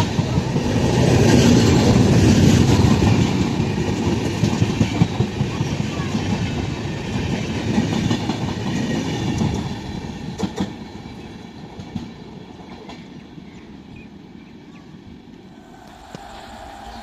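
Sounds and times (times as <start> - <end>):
train wheels rumbling on track: 0.0 - 13.9, 15.4 - 17.0.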